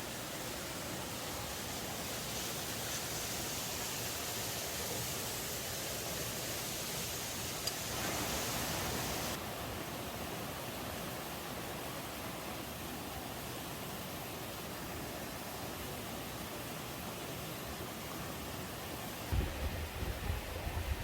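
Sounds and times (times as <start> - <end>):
stream rushing: 0.0 - 21.0.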